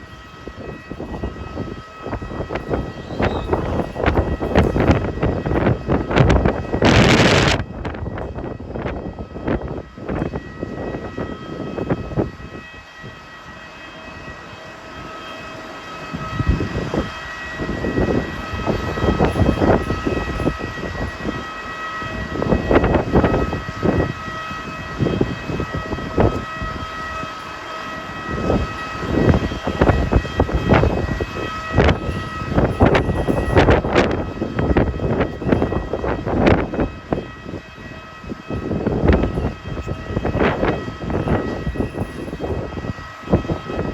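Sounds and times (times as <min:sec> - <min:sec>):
high whine of machinery: 0:00.0 - 0:43.9
wind buffeting microphone: 0:00.0 - 0:43.9.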